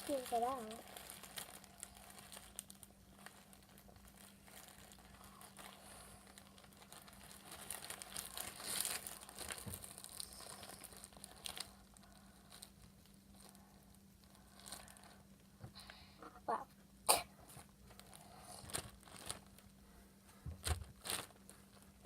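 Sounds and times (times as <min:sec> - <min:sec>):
slime crackling and crinkling: 0:00.0 - 0:15.5, 0:17.5 - 0:19.8, 0:20.5 - 0:22.0.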